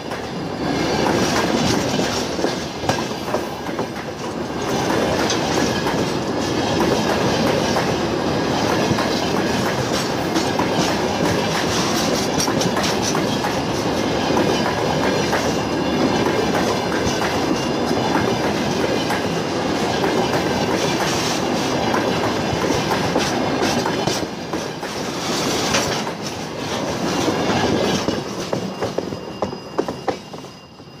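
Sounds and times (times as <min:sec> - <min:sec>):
train wheels clattering over rail joints: 0:00.0 - 0:30.5.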